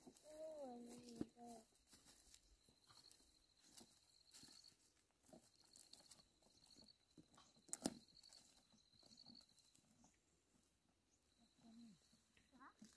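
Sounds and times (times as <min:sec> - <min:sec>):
footsteps on dry stubble: 0:00.0 - 0:10.8.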